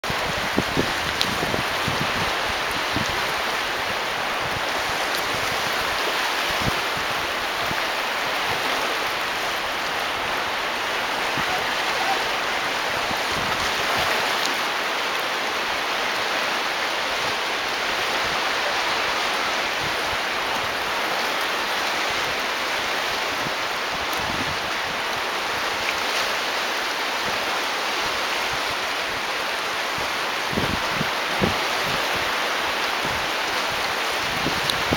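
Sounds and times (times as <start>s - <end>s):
waves splashing on rocks: 0.0s - 34.9s.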